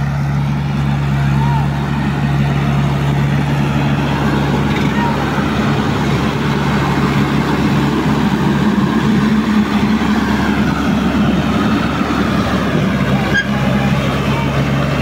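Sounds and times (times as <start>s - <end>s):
tractor diesel engine under load: 0.0s - 15.0s
water splashing from wheels: 0.0s - 15.0s.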